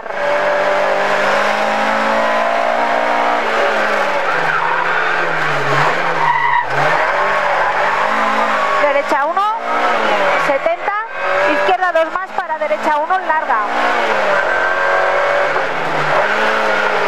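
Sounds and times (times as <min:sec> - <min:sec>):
car engine revving: 0:00.0 - 0:17.0
tyre and road noise: 0:00.0 - 0:17.0.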